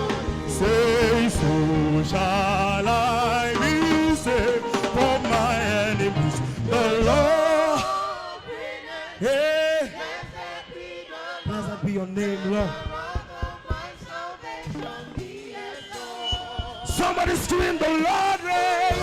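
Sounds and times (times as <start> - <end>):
people singing: 0.0 - 19.0.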